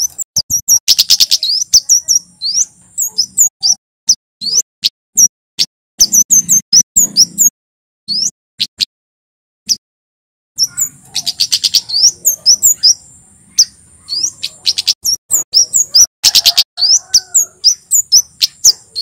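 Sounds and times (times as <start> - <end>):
bird singing high tsit notes: 0.0 - 5.3, 6.0 - 7.5, 8.1 - 8.9, 10.6 - 19.0.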